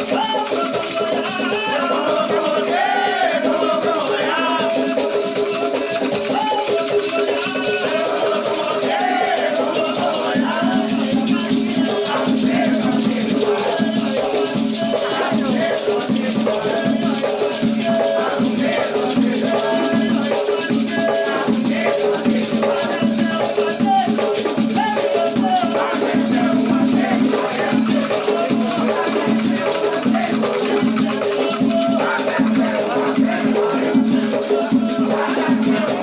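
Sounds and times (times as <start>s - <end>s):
drumming: 0.0s - 36.0s
group singing: 0.0s - 36.0s.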